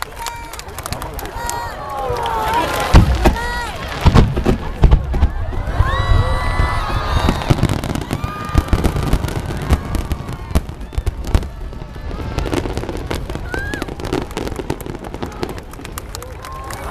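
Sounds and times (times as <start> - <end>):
fireworks crackling bangs: 0.0 - 16.9
deep fireworks booms: 2.1 - 16.3.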